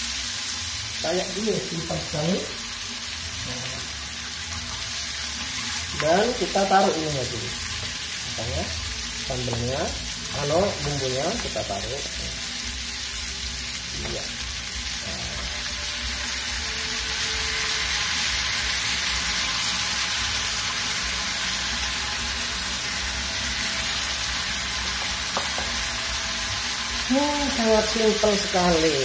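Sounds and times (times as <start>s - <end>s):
beans sizzling in hot oil: 0.0s - 29.0s.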